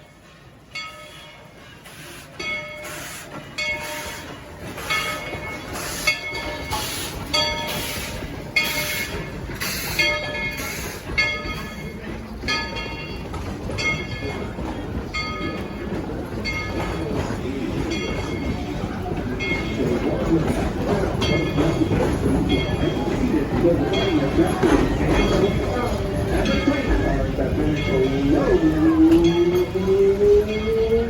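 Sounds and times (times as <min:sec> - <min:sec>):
locomotive bell ringing: 0:00.0 - 0:31.0
train rumble: 0:00.0 - 0:31.0.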